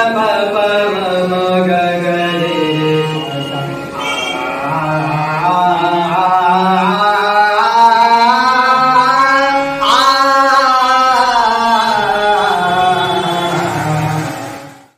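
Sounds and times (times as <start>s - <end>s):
man singing long notes: 0.0s - 14.8s
harmonium: 0.0s - 14.9s.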